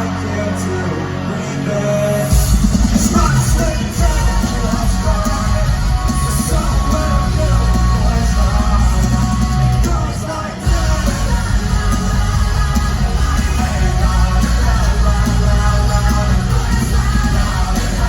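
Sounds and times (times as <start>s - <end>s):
live pop-punk band playing: 0.0s - 18.0s.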